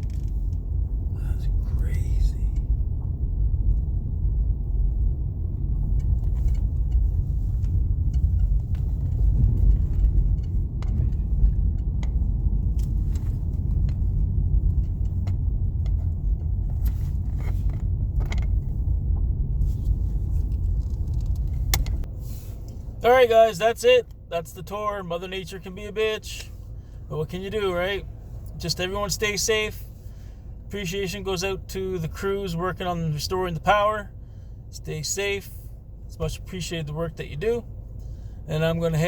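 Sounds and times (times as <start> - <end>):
car cabin rumble: 0.0 - 39.0.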